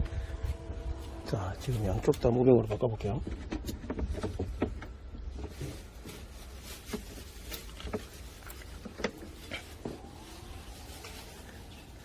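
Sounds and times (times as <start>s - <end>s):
faint low rumble: 0.0s - 4.2s, 4.8s - 12.0s.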